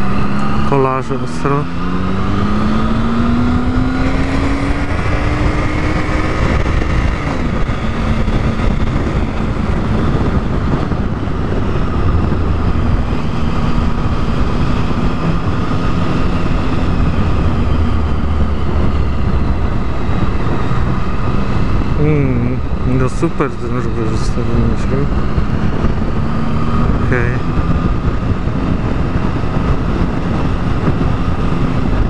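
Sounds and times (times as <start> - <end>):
motorcycle engine running: 0.0 - 32.0
wind rumble on microphone: 0.0 - 32.0.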